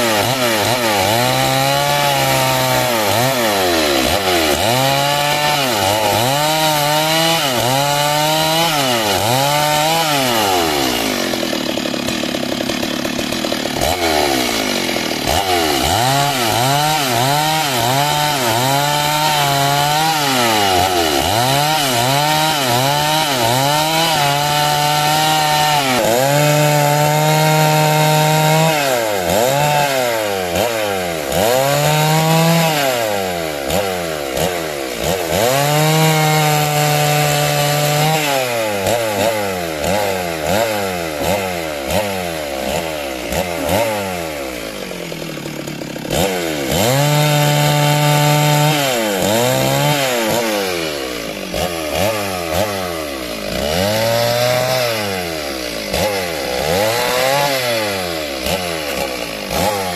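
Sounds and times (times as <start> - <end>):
chainsaw cutting timber: 0.0 - 59.9.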